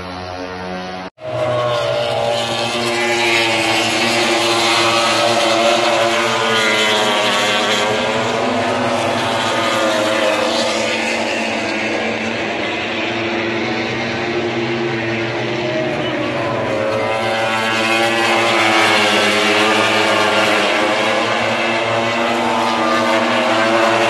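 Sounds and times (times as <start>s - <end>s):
racing motorcycles at high revs: 0.0s - 24.0s.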